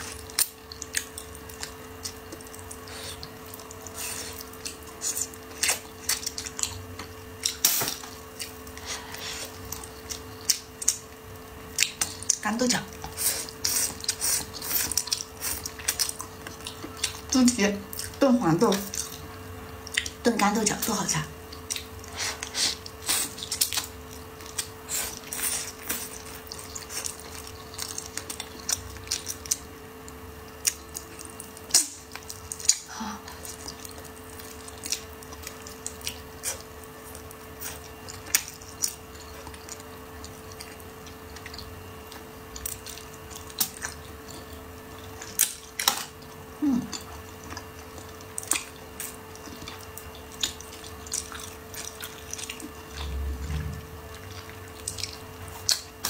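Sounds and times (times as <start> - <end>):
person chewing: 0.0 - 20.2, 21.5 - 56.0.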